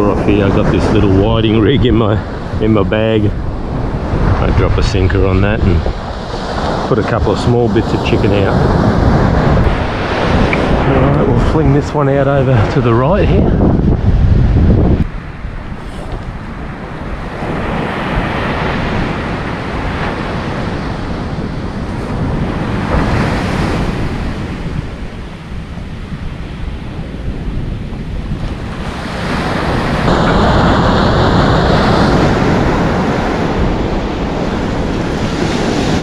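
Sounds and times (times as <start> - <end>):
ocean surf on sandy beach: 0.0 - 36.0
wind buffeting microphone: 0.0 - 36.0.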